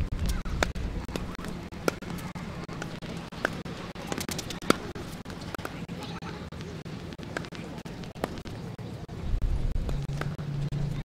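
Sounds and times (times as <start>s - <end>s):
tennis balls hitting rackets: 0.1s - 8.6s, 9.8s - 10.5s.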